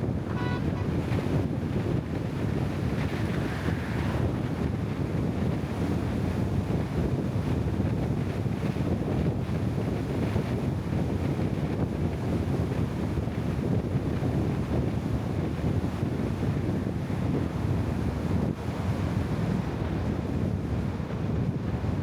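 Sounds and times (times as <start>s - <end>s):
vehicle rumble and wind noise: 0.0s - 22.0s.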